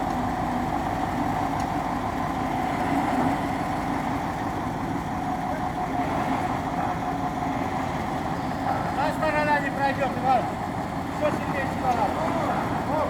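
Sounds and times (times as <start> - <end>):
crane diesel engine running: 0.0 - 13.0.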